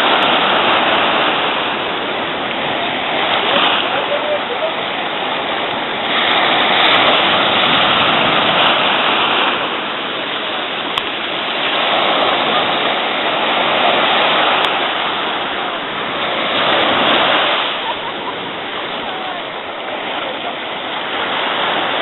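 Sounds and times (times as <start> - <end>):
rushing churning water: 0.0 - 22.0.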